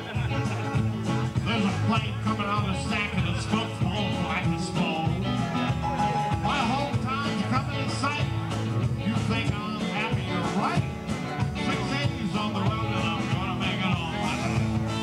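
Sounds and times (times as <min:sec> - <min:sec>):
electric guitar: 0:00.0 - 0:15.0
live band playing rock and roll: 0:00.0 - 0:15.0
man singing into a microphone: 0:01.3 - 0:11.0, 0:11.6 - 0:15.0.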